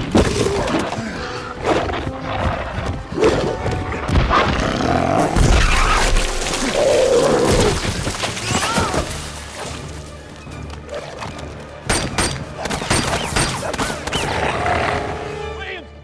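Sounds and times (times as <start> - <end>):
film score music: 0.0 - 16.0.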